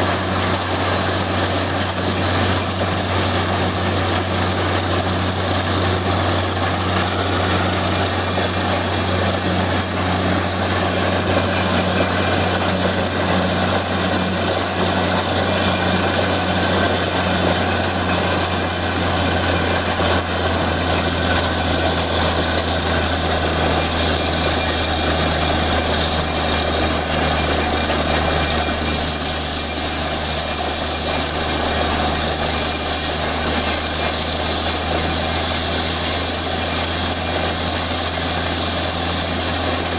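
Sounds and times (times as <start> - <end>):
drilling rig engine hum: 0.0 - 39.9.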